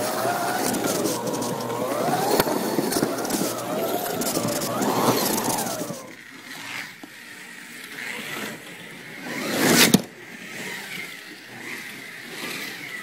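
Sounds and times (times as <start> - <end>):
slot car motor whining: 0.0 - 13.0.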